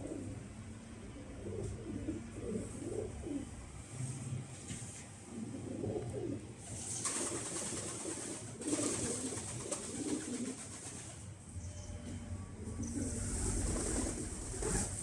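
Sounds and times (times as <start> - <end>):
pigeons cooing: 0.0 - 3.9, 5.3 - 11.2, 12.6 - 15.0.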